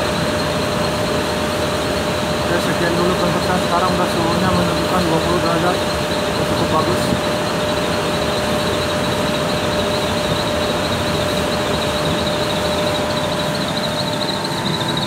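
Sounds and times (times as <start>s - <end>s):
air conditioner blowing air: 0.0s - 15.0s.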